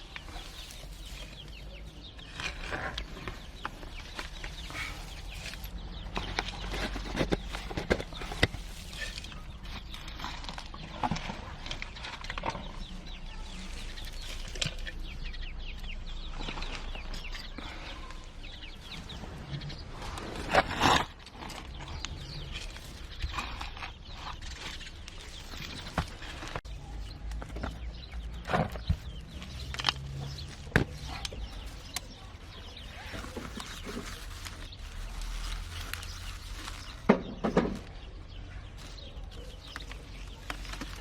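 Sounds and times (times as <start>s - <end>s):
chicks peeping: 0.0s - 20.7s, 21.4s - 41.0s.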